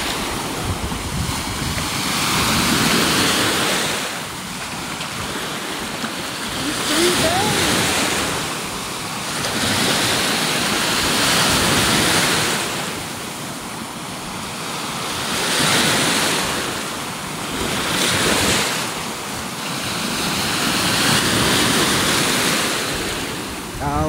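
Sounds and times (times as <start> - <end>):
waves washing onto beach: 0.0 - 24.0.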